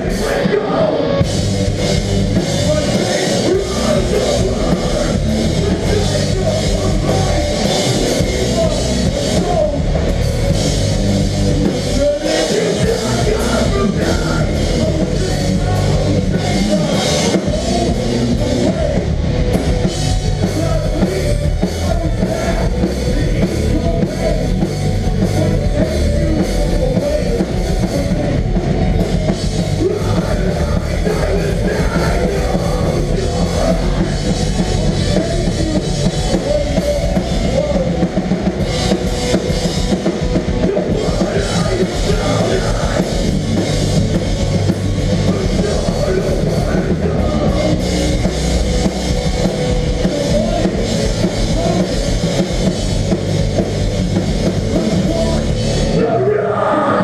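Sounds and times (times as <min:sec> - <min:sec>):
hardcore band playing live: 0:00.0 - 0:57.0
pounding drum kit: 0:00.0 - 0:57.0.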